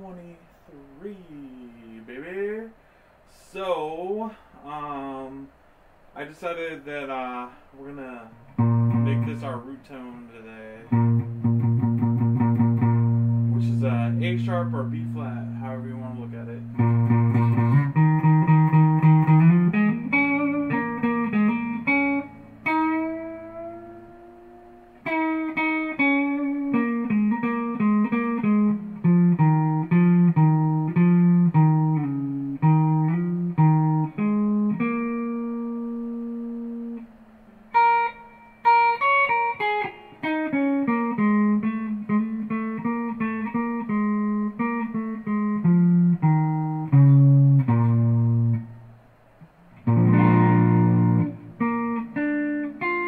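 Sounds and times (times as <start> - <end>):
electric guitar blues lines: 8.3 - 48.9, 49.7 - 53.0.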